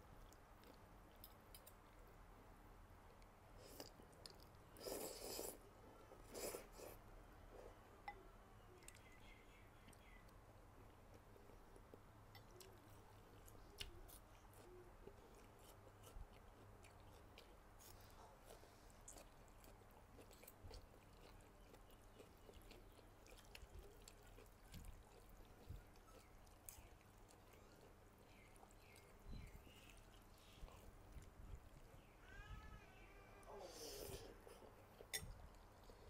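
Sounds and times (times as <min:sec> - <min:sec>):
soft chewing: 0:00.0 - 0:36.0.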